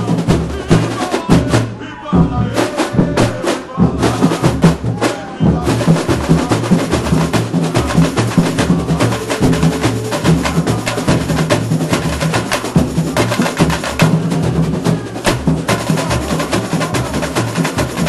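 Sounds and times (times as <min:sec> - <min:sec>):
bass drums: 0:00.0 - 0:18.0
snare and high percussion: 0:00.0 - 0:18.0.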